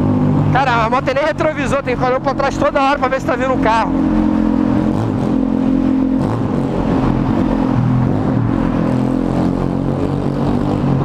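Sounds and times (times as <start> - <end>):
loud motorcycle engine in tunnel: 0.0 - 11.0.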